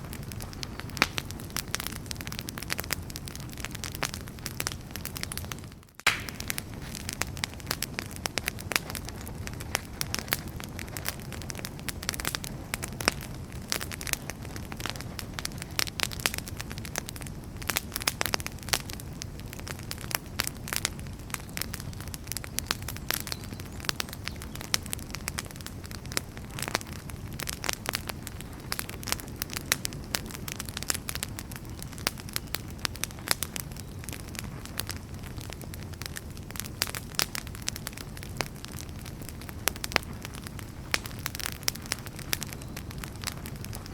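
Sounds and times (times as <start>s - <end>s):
firewood crackling and popping: 0.0s - 43.9s
low rumble of flames: 0.0s - 43.9s.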